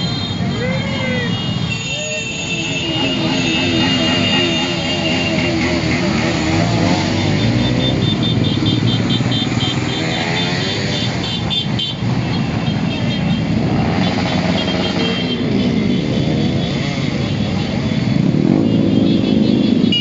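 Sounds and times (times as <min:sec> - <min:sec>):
motorcycle engines: 0:00.0 - 0:20.0.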